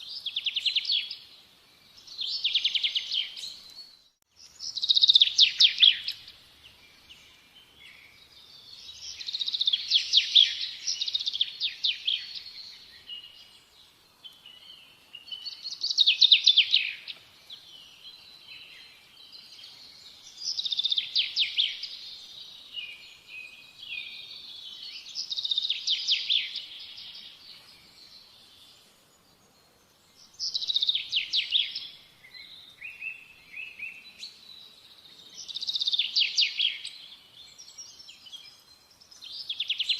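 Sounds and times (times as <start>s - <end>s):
soft bird chirps: 0.0s - 39.9s.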